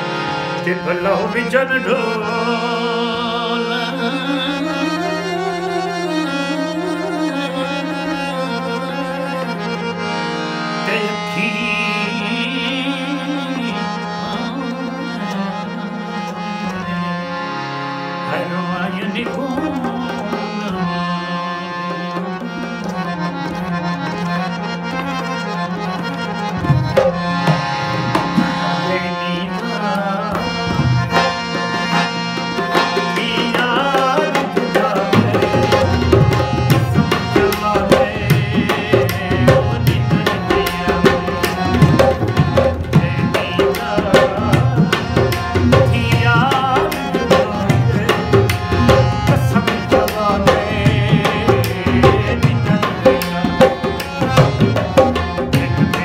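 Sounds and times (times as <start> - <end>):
man singing: 0.0 - 9.8, 10.8 - 17.3, 18.1 - 56.0
harmonium drone: 0.0 - 56.0.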